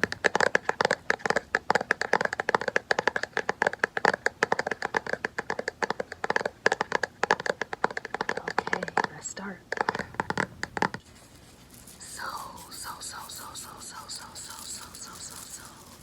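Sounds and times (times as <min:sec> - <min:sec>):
tapping and scratching: 0:00.0 - 0:16.0.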